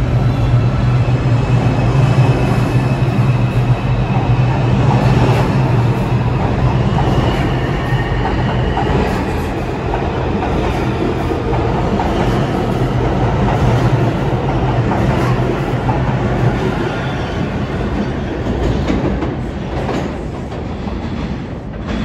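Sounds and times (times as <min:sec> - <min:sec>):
subway train rumbling on rails: 0:00.0 - 0:22.0.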